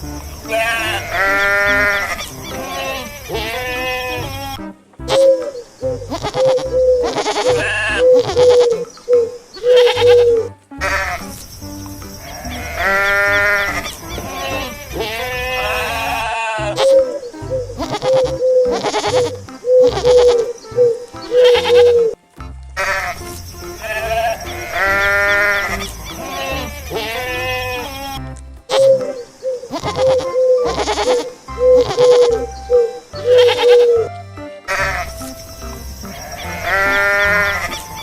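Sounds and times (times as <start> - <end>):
goats bleating: 0.0 - 5.5, 6.1 - 8.9, 9.6 - 20.6, 21.2 - 22.2, 22.8 - 32.4, 33.2 - 35.3, 36.0 - 38.0
background music: 0.0 - 38.0.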